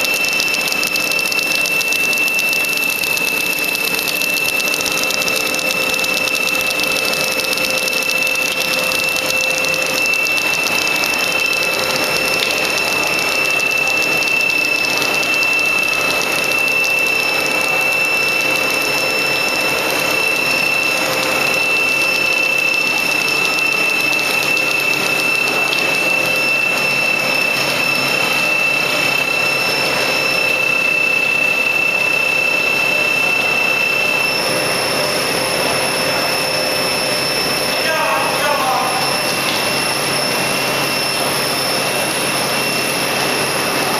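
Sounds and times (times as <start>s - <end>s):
machine whining: 0.0s - 43.9s
mechanical machine noise: 0.0s - 43.9s.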